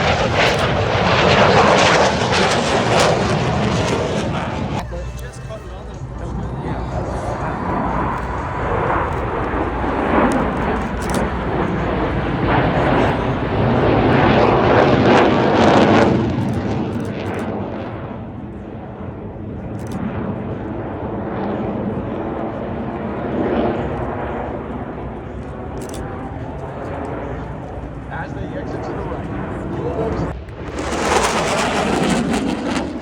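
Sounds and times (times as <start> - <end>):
aircraft flying past: 0.0 - 33.0.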